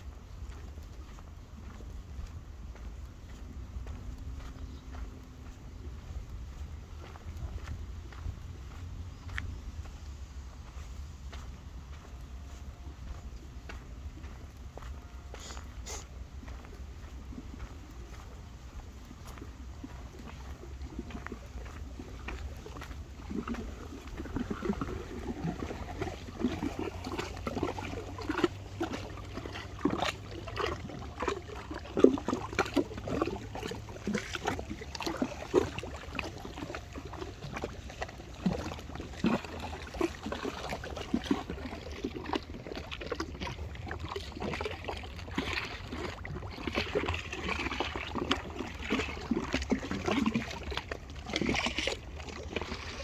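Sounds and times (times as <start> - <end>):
steady low rumble: 0.0 - 49.8
river water splashing: 0.0 - 53.0.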